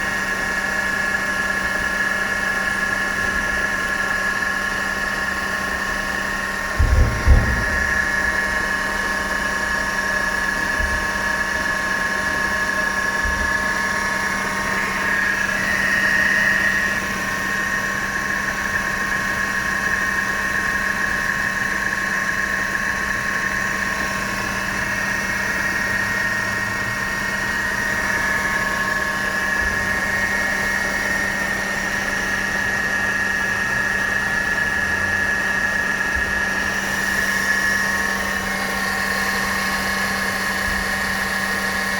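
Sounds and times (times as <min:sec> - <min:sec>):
car engine idling with whine: 0:00.0 - 0:41.9.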